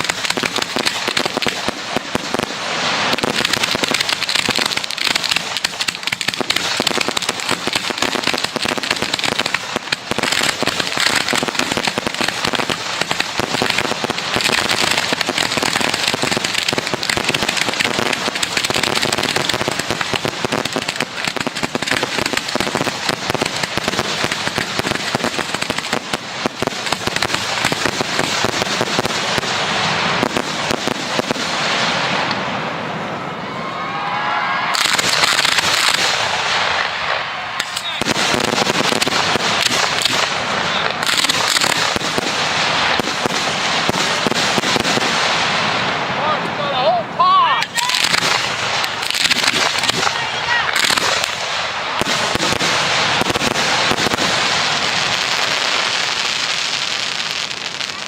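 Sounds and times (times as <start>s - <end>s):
fireworks barrage crackling: 0.0s - 58.0s.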